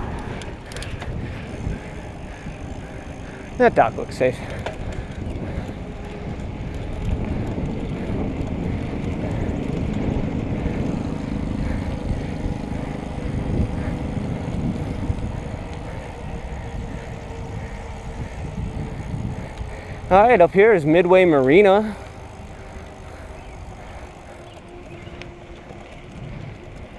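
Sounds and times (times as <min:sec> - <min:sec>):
wind on microphone: 0:00.0 - 0:20.8, 0:21.6 - 0:26.9
road noise: 0:00.0 - 0:26.9.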